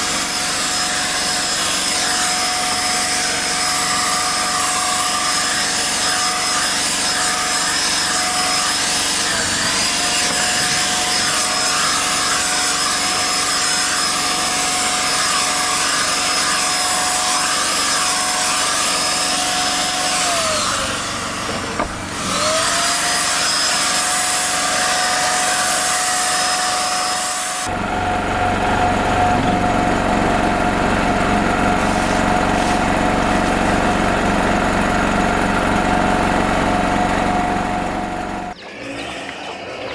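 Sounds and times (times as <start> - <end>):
small motor running: 0.0 - 39.8.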